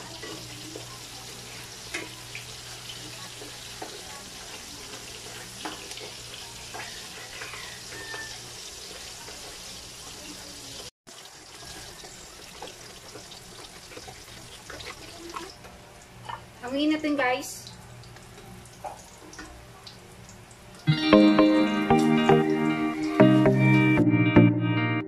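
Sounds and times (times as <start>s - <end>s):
fish sizzling in hot oil: 0.0s - 20.9s.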